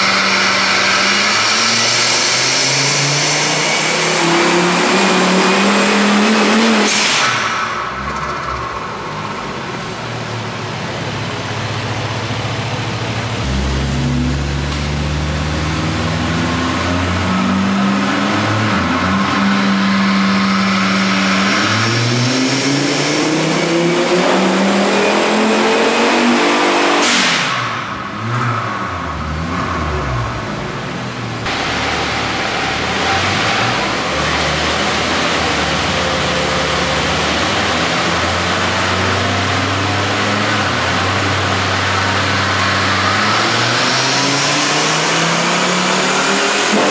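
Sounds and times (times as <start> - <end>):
car engine revving on dyno: 0.0 - 46.9.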